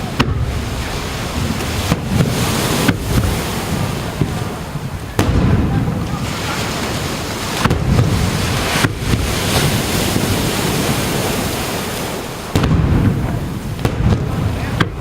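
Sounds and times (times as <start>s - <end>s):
fireworks bursting: 0.0s - 15.0s
surf washing on beach: 0.0s - 15.0s
wind buffeting microphone: 0.0s - 15.0s.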